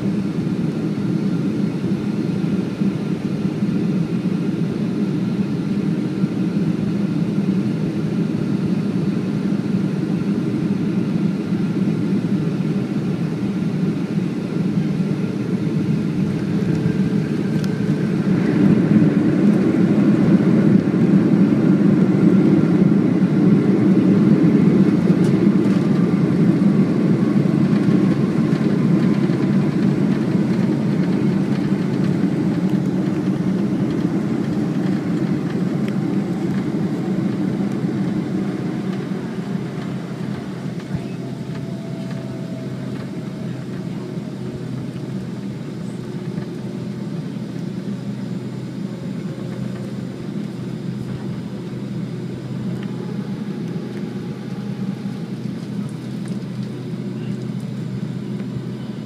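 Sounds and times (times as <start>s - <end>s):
airplane cabin engine rush: 0.0s - 59.0s.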